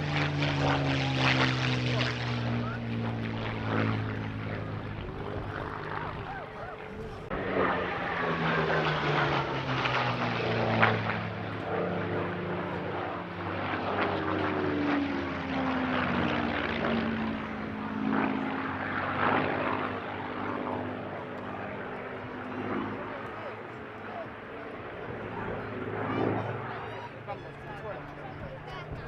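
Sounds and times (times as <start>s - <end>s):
propeller aircraft engine flypast: 0.0s - 29.0s.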